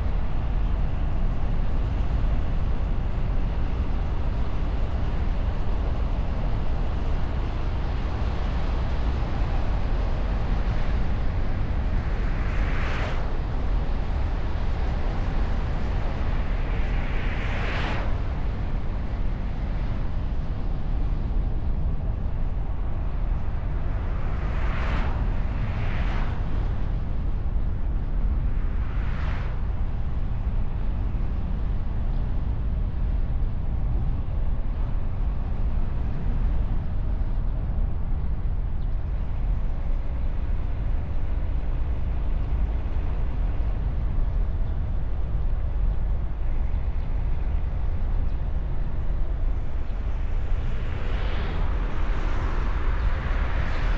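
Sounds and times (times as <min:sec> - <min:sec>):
wind buffeting: 0:00.0 - 0:53.9.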